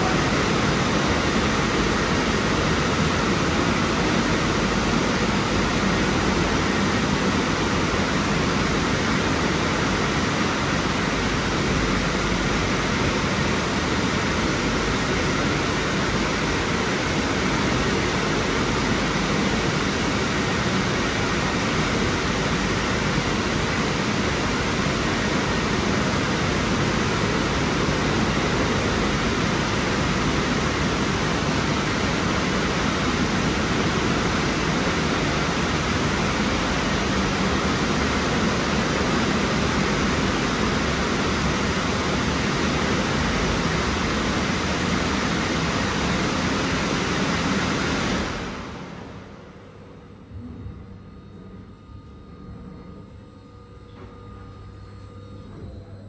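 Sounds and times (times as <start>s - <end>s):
car wash dryer blowers: 0.0s - 56.0s.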